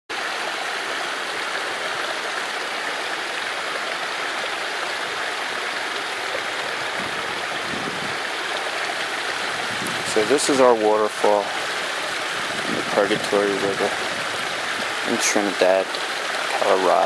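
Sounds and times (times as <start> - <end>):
river water rushing over waterfall: 0.1 - 17.0.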